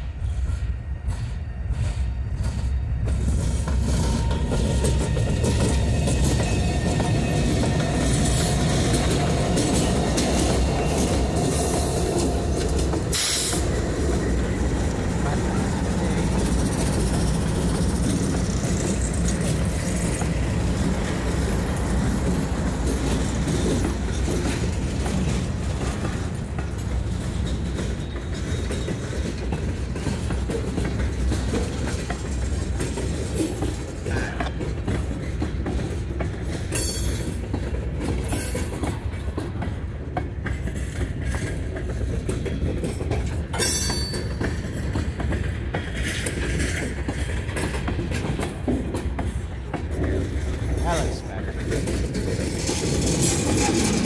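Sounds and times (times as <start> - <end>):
diesel locomotive engine drone: 0.0 - 54.0
train wheels rumbling on rails: 0.0 - 54.0.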